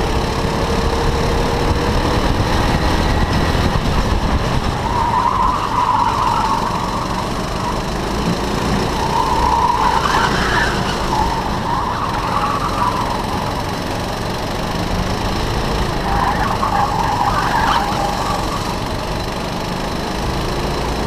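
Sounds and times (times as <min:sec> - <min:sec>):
go-kart engine whining: 0:00.0 - 0:21.0.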